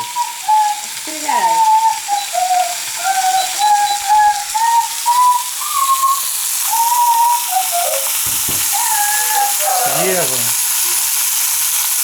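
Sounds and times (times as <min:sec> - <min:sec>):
high wavering whistle-like tone: 0:00.0 - 0:10.4
meat sizzling on a grill: 0:00.0 - 0:12.0.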